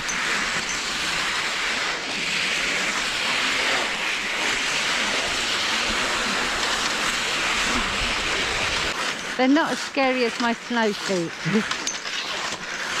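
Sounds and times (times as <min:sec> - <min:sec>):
skis scraping on snow: 0:00.0 - 0:13.0.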